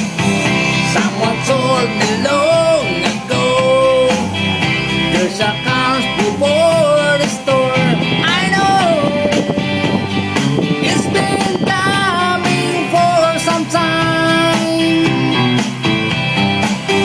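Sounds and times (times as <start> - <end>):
song with guitar and beat: 0.0 - 17.0
person singing: 0.5 - 15.6.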